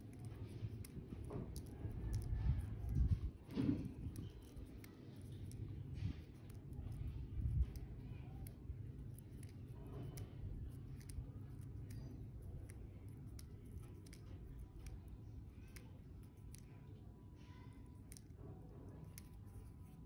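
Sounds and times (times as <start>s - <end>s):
low background rumble: 0.0s - 20.0s
soft clicks of seeds peeled: 0.0s - 20.0s.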